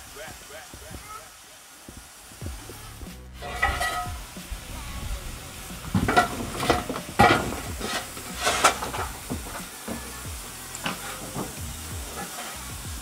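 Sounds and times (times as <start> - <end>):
sharp bursts of steam: 0.0 - 13.0
steam engine hissing: 0.0 - 13.0.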